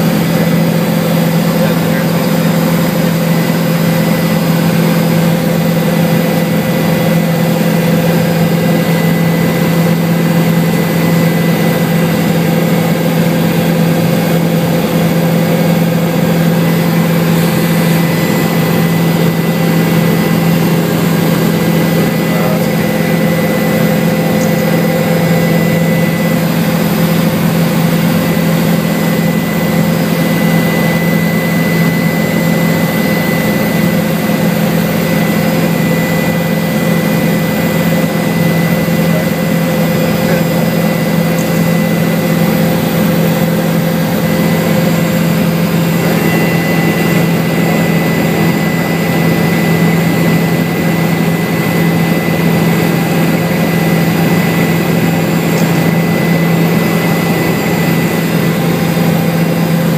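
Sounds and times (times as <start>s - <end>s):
helicopter in flight: 0.0s - 59.9s
high-pitched whine: 0.0s - 59.9s.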